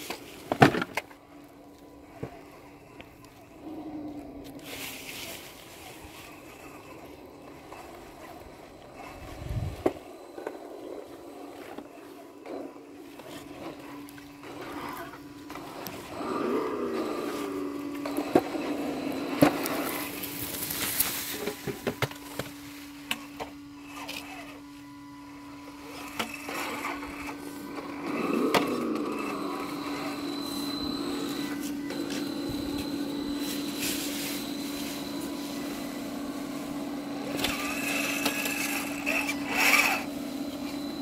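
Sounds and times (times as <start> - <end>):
electric motor and gear whine: 0.0 - 41.0.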